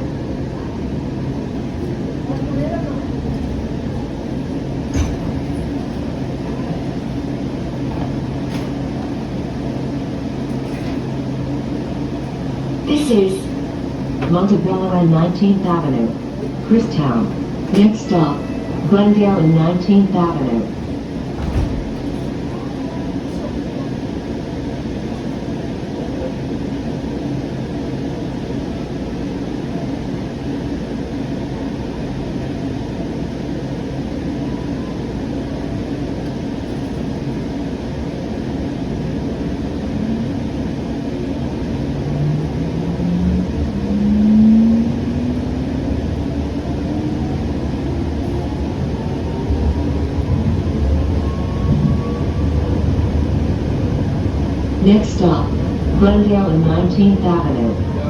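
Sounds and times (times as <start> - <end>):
rumble of train wheels: 0.0 - 58.0.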